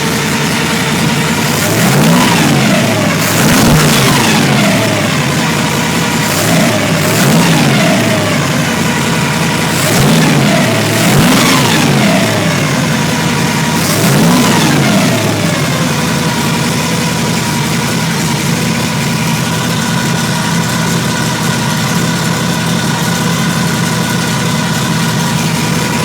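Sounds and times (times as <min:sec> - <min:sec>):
engine revving and idling: 0:00.0 - 0:26.0.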